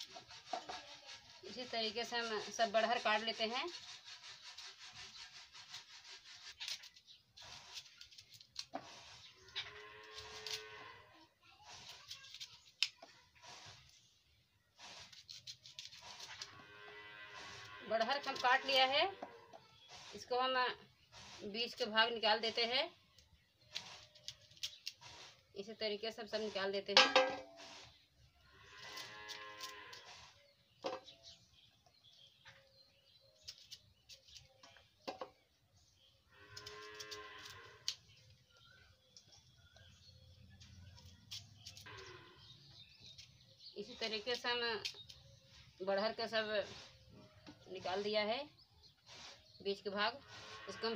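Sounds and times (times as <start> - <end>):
knife cutting and scraping fruit: 0.0 - 10.9, 11.5 - 16.7, 17.3 - 31.4, 32.2 - 48.2, 48.8 - 50.9.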